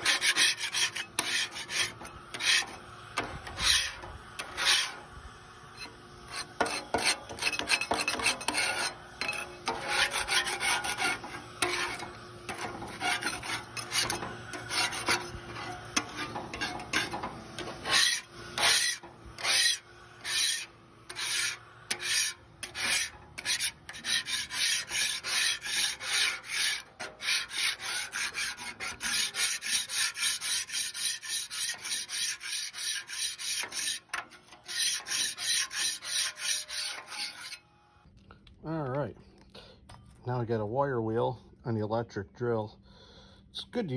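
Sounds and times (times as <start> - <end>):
scraper scraping rust off steel: 0.0 - 37.7.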